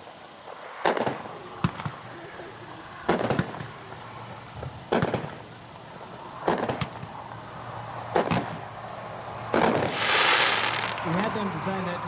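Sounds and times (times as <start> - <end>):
fireworks cake shots cracking: 0.8 - 8.8, 9.4 - 11.9.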